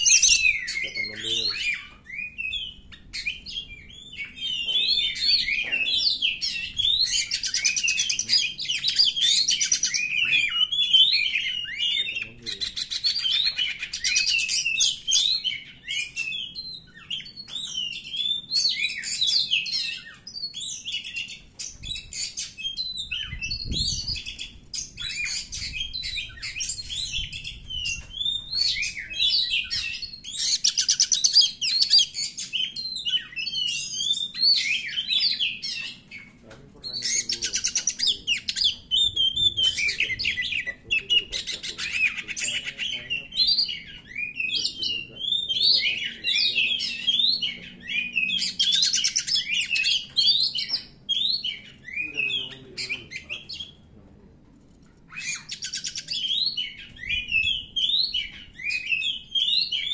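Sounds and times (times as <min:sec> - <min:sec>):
bird singing whistles and chirps: 0:00.0 - 0:53.8, 0:55.1 - 0:59.9.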